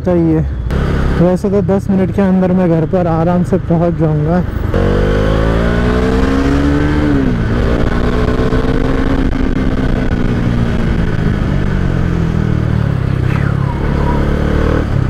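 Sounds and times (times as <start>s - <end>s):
motorcycle engine running: 0.7s - 15.0s.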